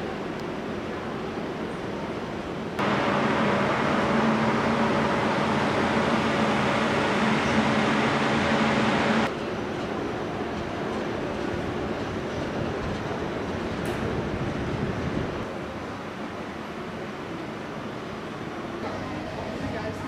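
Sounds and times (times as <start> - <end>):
steady mechanical hum: 0.0 - 20.0
street background noise: 0.0 - 20.0.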